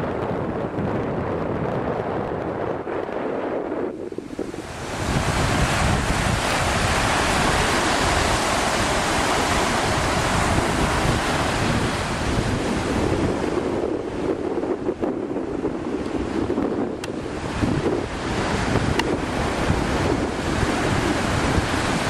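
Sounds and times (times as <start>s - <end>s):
wind buffeting microphone: 0.0s - 22.0s
sea surf washing: 1.8s - 22.0s.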